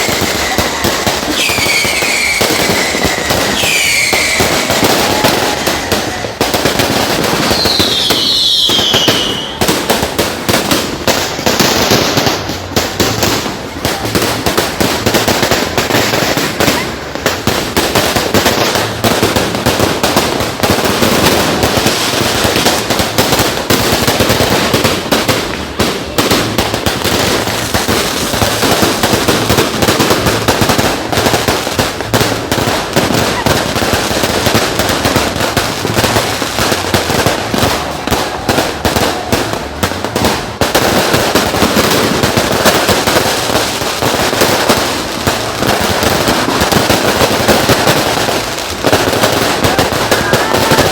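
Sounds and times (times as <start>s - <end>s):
fireworks cracking and banging: 0.0s - 50.9s.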